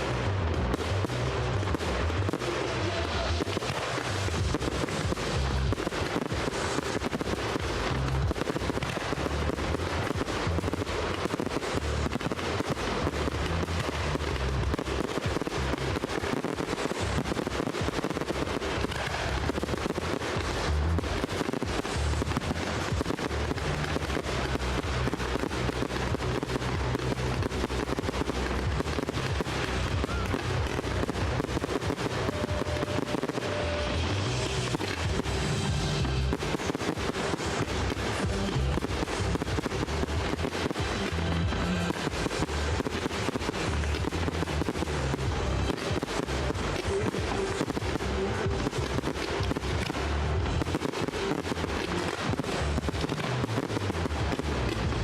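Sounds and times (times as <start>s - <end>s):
fireworks bangs and crackle: 0.0s - 55.0s
music playing: 0.0s - 55.0s.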